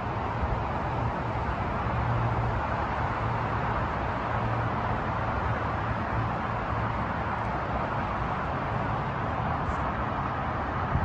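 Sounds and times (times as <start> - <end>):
rumble and hiss: 0.0 - 11.0.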